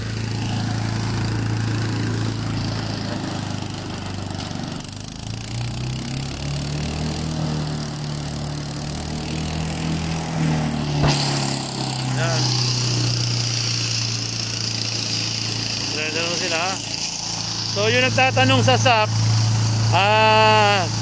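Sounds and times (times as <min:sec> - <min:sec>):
small gasoline engine running: 0:00.0 - 0:21.0.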